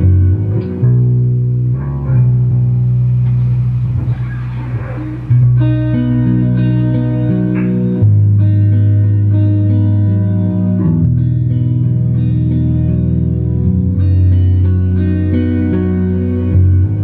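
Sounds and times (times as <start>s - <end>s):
electric guitar chords: 0.0s - 17.0s
looped bass line: 0.0s - 17.0s.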